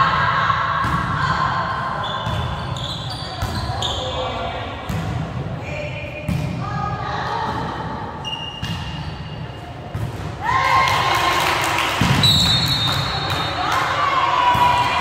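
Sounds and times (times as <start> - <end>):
voices of players and spectators: 0.0 - 15.0
volleyball thuds in a hall: 0.0 - 15.0.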